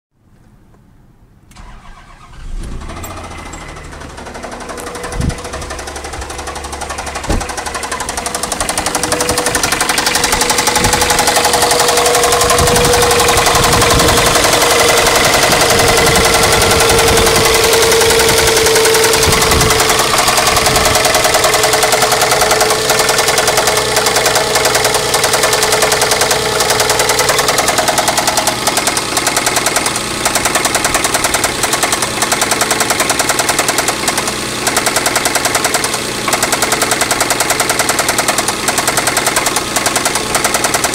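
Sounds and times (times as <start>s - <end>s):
engine running with fast knock: 2.6s - 40.9s.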